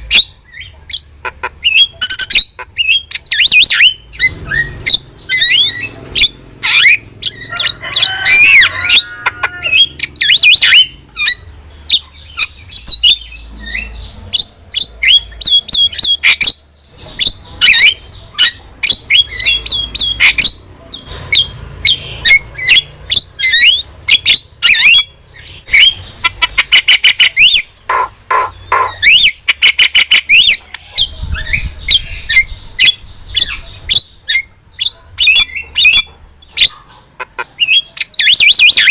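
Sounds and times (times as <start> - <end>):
bird whistling and chattering: 0.0 - 38.9.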